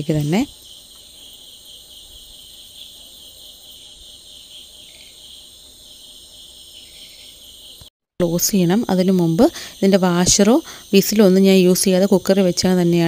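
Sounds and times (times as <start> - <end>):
high-pitched insect chirring: 0.0 - 13.0.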